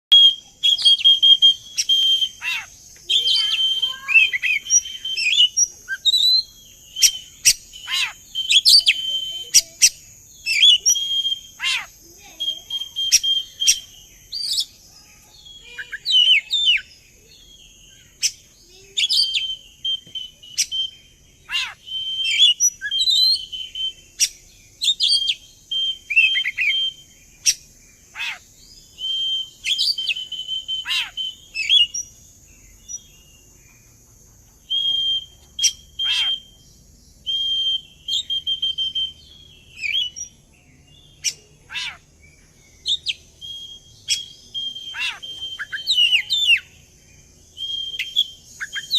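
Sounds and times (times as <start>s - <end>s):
magpie-robin singing: 0.1s - 48.9s.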